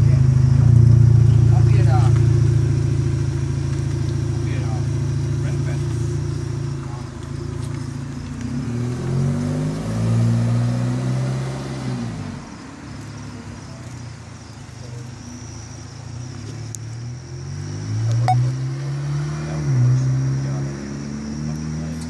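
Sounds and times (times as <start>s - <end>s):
car engine pulling away: 0.0s - 22.0s.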